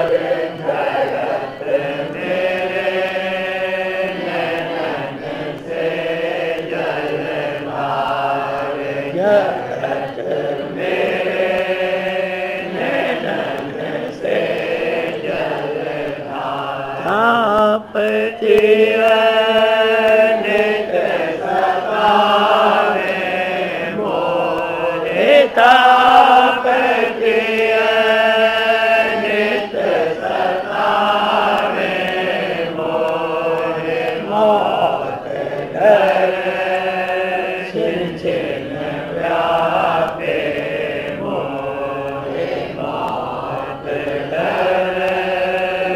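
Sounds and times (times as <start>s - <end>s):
person chanting devotional hymn: 0.0s - 45.9s.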